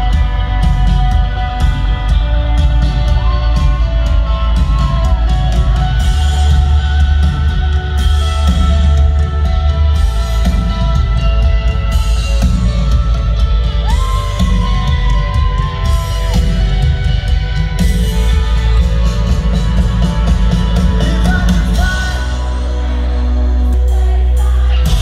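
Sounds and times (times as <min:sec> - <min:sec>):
crowd shouting and whooping: 0:00.0 - 0:25.0
live rock band: 0:00.0 - 0:25.0.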